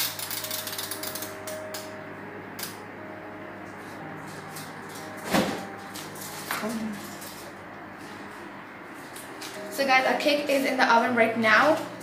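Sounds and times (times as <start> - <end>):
oven low hum: 0.0 - 12.0.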